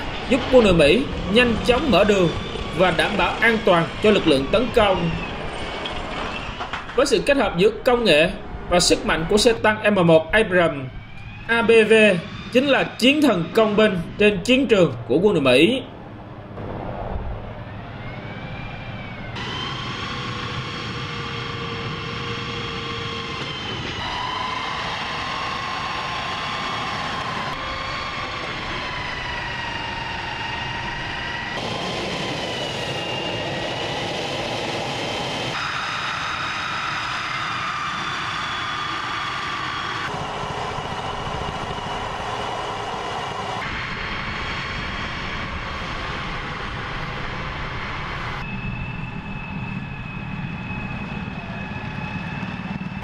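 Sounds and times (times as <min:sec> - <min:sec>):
gas turbine engine whine: 0:00.0 - 0:53.0.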